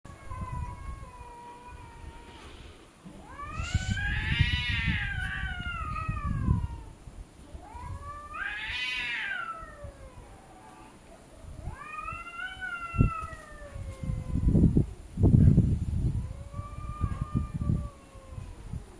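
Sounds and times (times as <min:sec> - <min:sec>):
cats yowling: 0:00.1 - 0:02.6, 0:03.2 - 0:14.6, 0:16.1 - 0:18.8.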